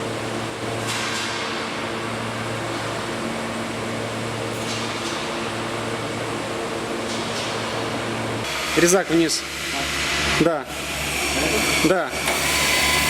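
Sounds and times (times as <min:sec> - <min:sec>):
machine hum with fan noise: 0:00.0 - 0:13.0.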